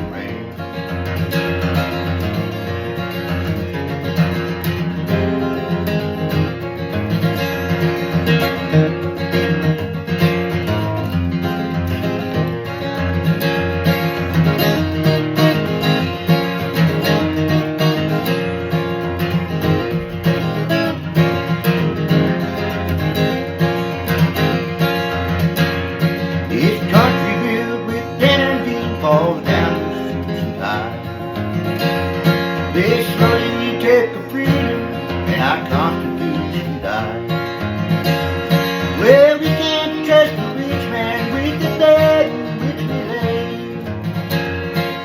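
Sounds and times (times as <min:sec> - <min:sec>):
instrumental country music: 0:00.0 - 0:45.0
strummed acoustic guitar: 0:00.0 - 0:45.0.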